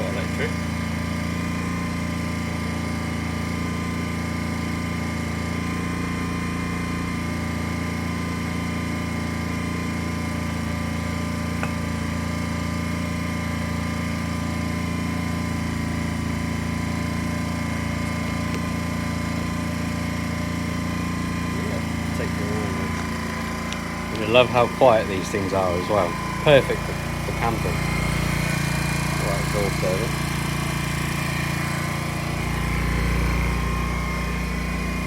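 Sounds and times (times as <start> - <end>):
generator engine humming: 0.0 - 35.0.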